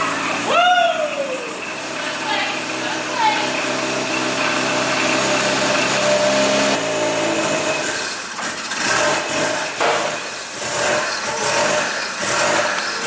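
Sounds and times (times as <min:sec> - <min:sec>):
rotary engine running: 0:00.0 - 0:13.0.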